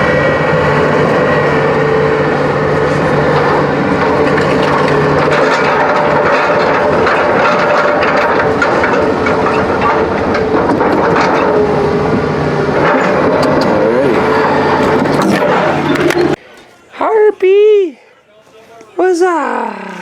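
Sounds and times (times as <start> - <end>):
large engine running: 0.0 - 16.4
clanks and rattles: 0.2 - 16.4.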